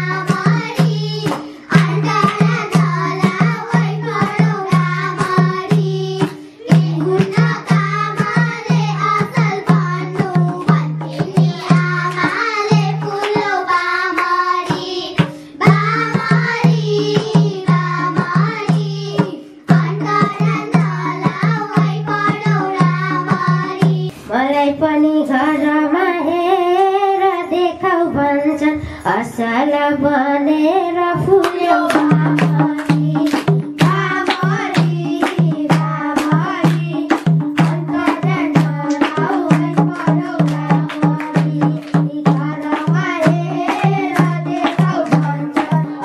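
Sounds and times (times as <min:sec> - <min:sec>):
percussion beat: 0:00.0 - 0:24.2, 0:30.8 - 0:46.0
girls singing into microphones: 0:00.0 - 0:46.0.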